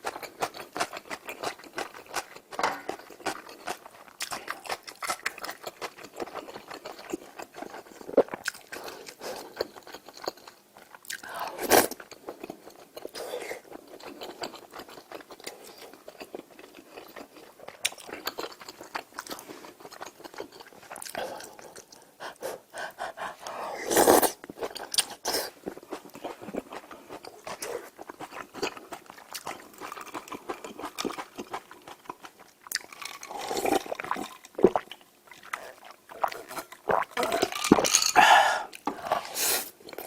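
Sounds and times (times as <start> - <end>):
chewing and crunching food: 0.0 - 23.6, 24.2 - 40.0.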